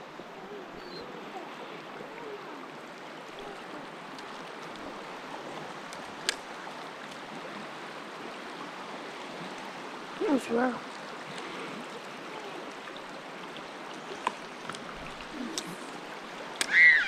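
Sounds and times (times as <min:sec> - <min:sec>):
flowing creek water: 0:00.0 - 0:17.0.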